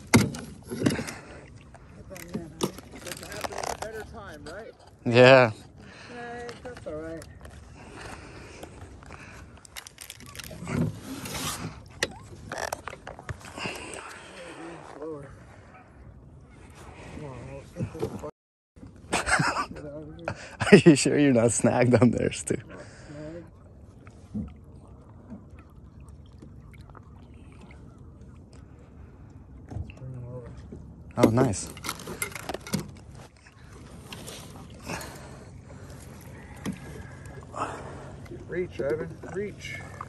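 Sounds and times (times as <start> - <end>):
water lapping against canoe hull: 0.0 - 20.6, 21.3 - 40.0.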